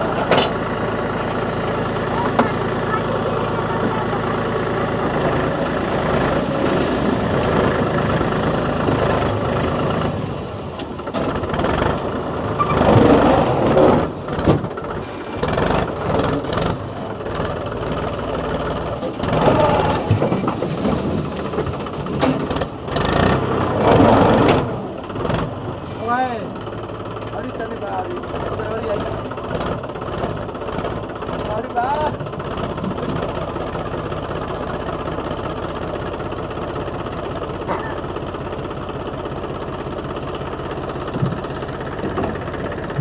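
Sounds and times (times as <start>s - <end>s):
tractor diesel engine under load: 0.0s - 43.0s.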